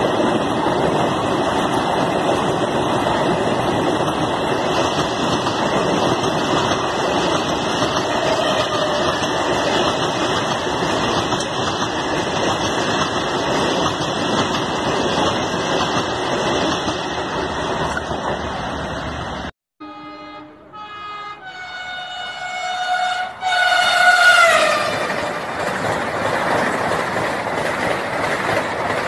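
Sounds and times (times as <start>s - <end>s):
electric train passing at speed: 0.0s - 29.0s.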